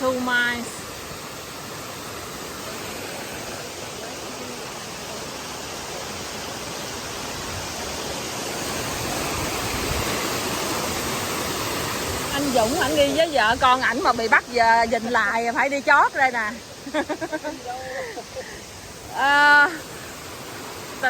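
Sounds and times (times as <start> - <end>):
brook water rushing: 0.0 - 21.0.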